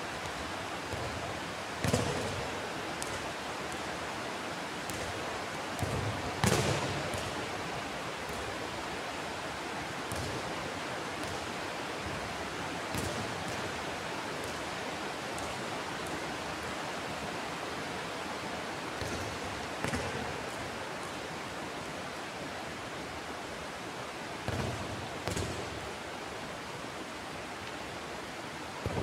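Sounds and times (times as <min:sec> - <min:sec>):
steady hiss: 0:00.0 - 0:29.0.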